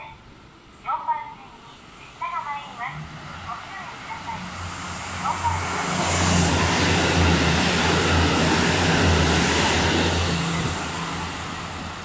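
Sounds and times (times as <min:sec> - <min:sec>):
train wheels rushing on rail: 0:01.8 - 0:12.0.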